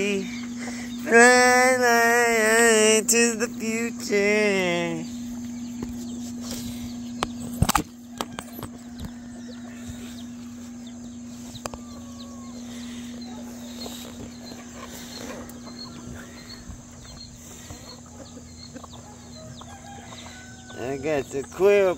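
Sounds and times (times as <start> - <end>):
chickens clucking: 0.0 - 21.9
steady low hum: 0.0 - 21.9.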